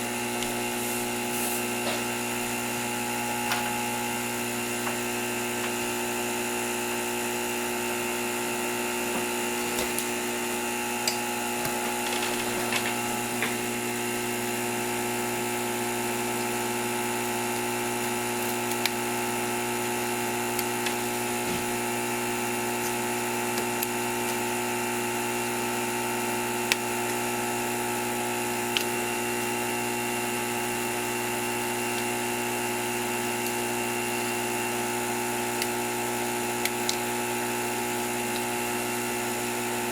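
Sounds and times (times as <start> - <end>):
small electric motor humming: 0.0 - 39.9.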